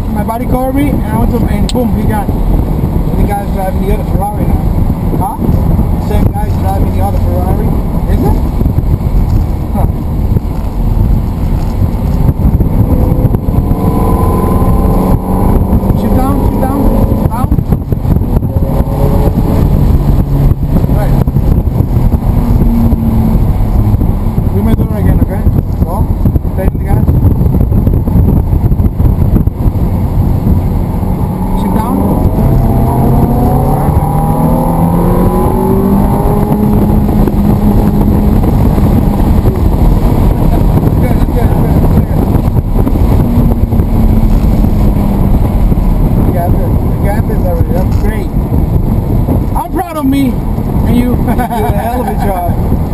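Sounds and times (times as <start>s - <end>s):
road and wind noise: 0.0s - 52.9s
sports car engine accelerating: 0.0s - 52.9s.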